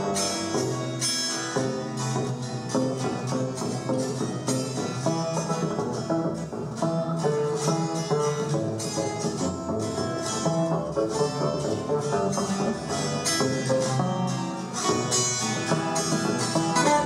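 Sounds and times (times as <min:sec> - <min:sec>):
double bass line: 0:00.0 - 0:17.0
plucked string ensemble: 0:00.0 - 0:17.0.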